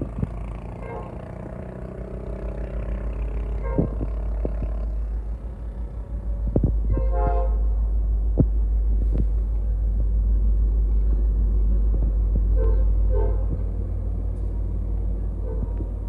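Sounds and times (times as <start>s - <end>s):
deep vehicle rumble: 0.0s - 16.0s.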